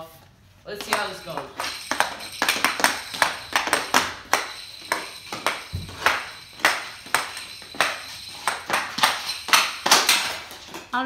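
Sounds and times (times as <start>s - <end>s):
hockey stick clacking on puck: 0.8s - 11.0s.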